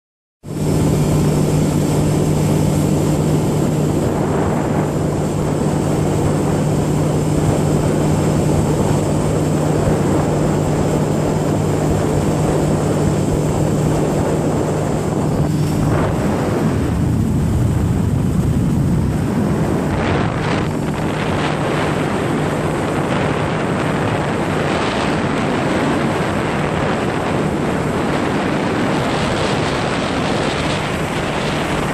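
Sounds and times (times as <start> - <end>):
boat motor droning: 0.4 - 31.9
water rushing against hull: 0.4 - 31.9
wind noise on microphone: 0.4 - 31.9.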